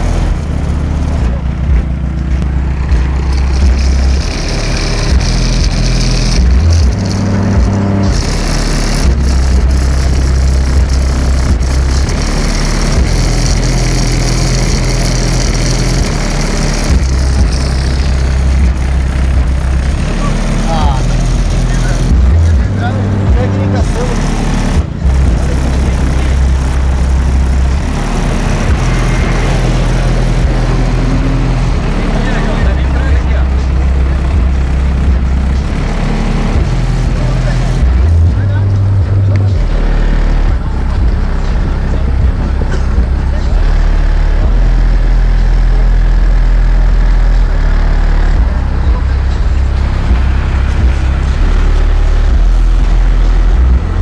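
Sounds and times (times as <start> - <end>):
loud subwoofer bass: 0.0 - 54.0
noisy buzz: 0.0 - 54.0.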